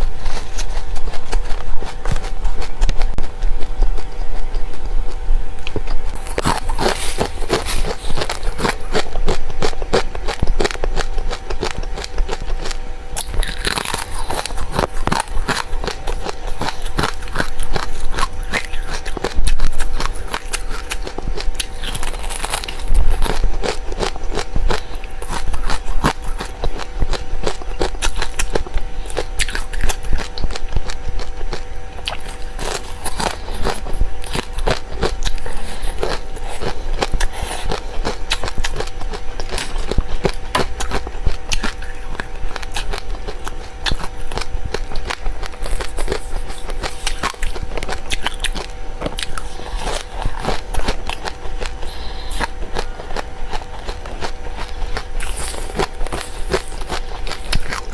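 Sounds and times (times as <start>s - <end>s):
crunching dry seeds: 0.0s - 57.9s.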